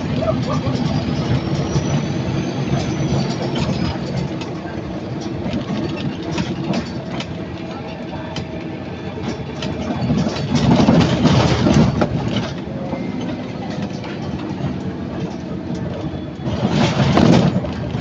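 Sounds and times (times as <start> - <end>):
bus body rattling: 0.0 - 18.0
bus engine running: 0.0 - 18.0.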